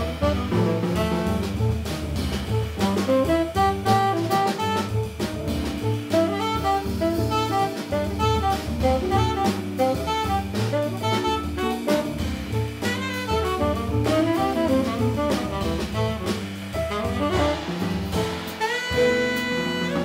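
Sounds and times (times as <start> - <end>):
tenor saxophone solo: 0.0 - 1.6, 2.8 - 5.2, 5.9 - 20.0
drum kit: 0.0 - 20.0
upright bass: 0.0 - 20.0.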